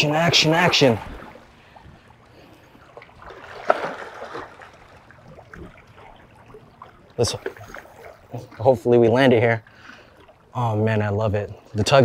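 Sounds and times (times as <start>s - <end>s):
small waves lapping on rocks: 0.0s - 11.0s.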